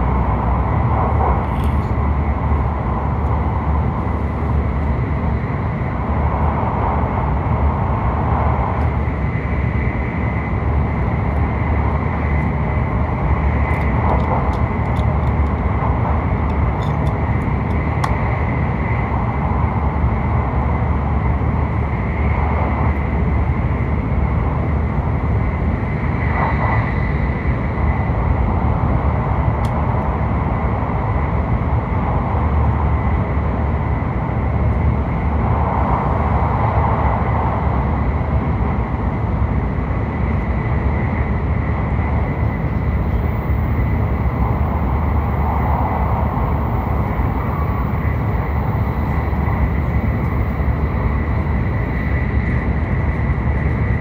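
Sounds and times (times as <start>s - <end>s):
train running noise inside cabin: 0.0s - 54.0s.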